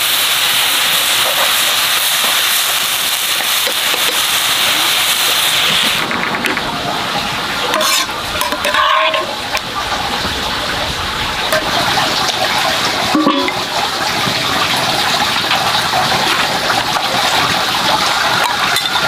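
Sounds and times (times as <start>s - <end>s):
broth simmering in a wok: 0.0s - 19.0s.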